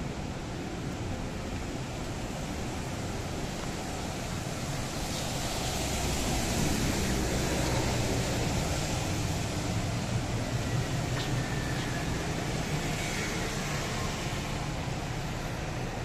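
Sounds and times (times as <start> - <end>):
city street traffic rumble: 0.0 - 16.0
rain hiss: 0.0 - 16.0.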